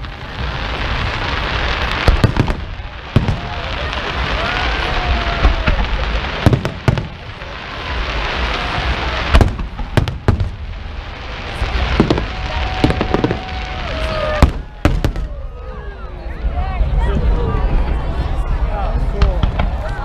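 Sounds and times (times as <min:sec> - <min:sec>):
fireworks bangs: 0:00.0 - 0:15.9, 0:19.0 - 0:20.0
steady noisy hiss: 0:00.0 - 0:17.4.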